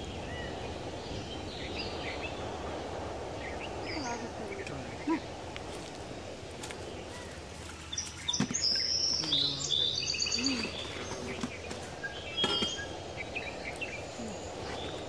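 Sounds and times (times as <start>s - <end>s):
birds chirping and whistling: 0.0s - 5.4s, 6.8s - 15.0s
steady background hiss: 0.0s - 15.0s.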